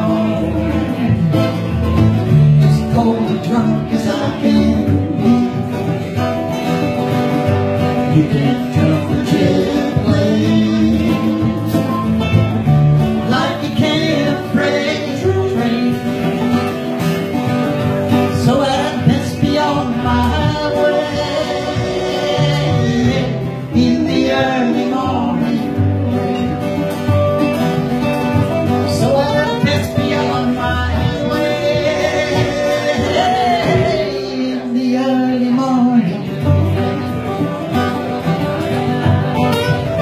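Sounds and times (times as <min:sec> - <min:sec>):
man singing: 0:00.0 - 0:06.8, 0:07.6 - 0:26.8, 0:28.6 - 0:40.0
acoustic guitar playing: 0:00.0 - 0:40.0.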